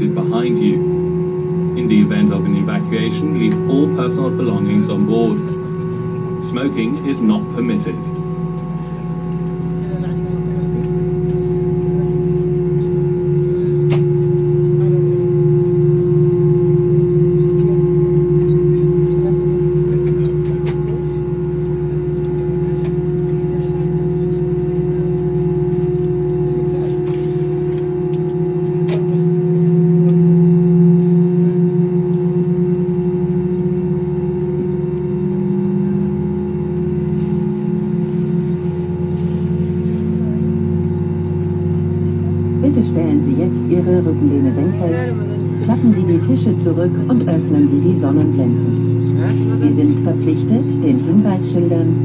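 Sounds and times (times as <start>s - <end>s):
aircraft cabin hum: 0.0s - 52.0s
low pulsing engine hum: 0.0s - 52.0s.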